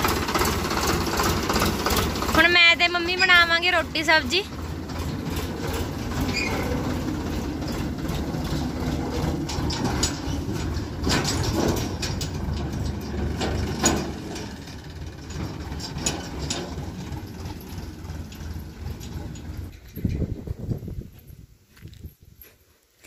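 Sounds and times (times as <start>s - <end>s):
trailer clanking: 0.0s - 21.0s
tractor engine running: 0.0s - 22.5s.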